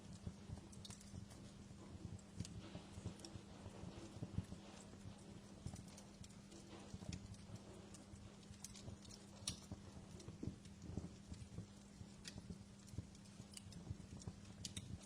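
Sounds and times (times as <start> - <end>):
faint low hum: 0.0 - 15.0
wood fire crackling: 0.0 - 15.0.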